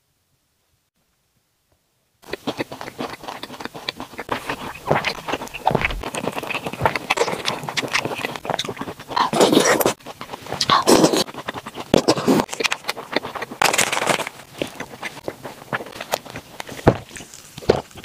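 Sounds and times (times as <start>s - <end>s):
close eating sounds: 2.2s - 18.0s.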